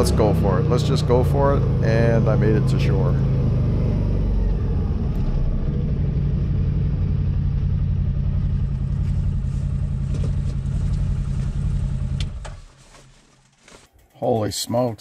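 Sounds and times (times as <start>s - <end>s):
engine low rumble: 0.0s - 13.9s.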